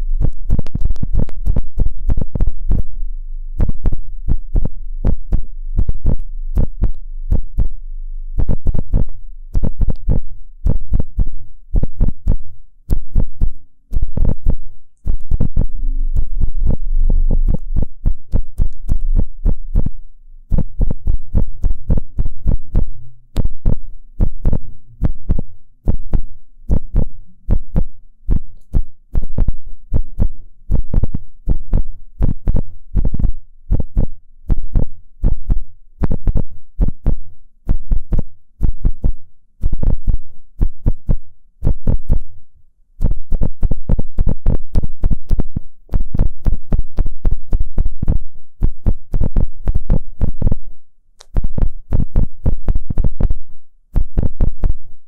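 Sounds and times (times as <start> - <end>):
ear pick scratching a microphone: 0.0 - 3.0, 8.4 - 42.3, 43.0 - 50.6, 51.2 - 54.8.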